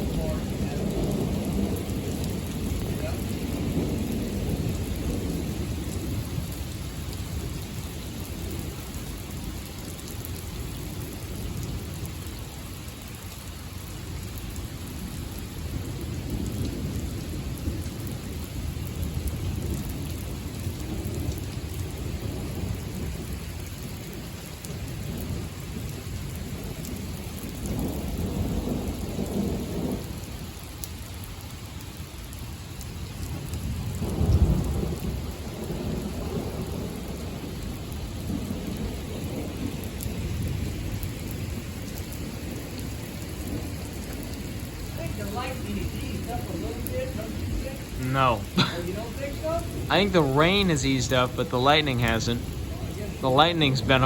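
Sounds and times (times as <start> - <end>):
low rolling thunder: 0.0 - 13.3, 14.0 - 30.5, 32.8 - 50.8, 52.2 - 53.2
steady rain: 0.0 - 54.0.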